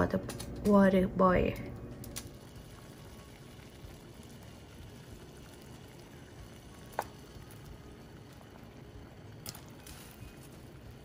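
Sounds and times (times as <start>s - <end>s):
water bubbling in saucepan: 0.0s - 11.0s.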